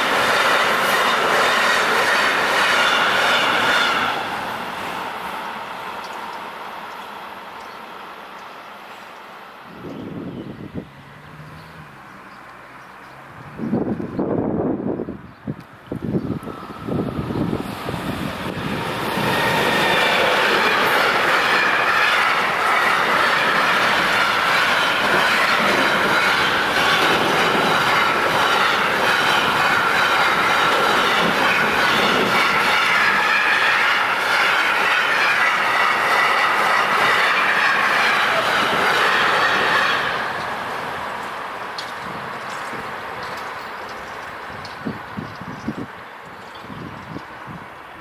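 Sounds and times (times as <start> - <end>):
train wheels rolling on rails: 0.0 - 48.0.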